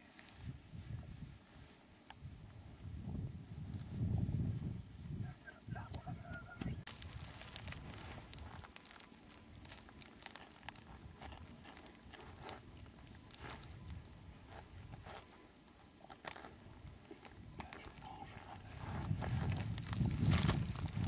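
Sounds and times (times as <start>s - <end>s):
rustling of dry brush: 0.0s - 2.9s, 6.9s - 21.0s.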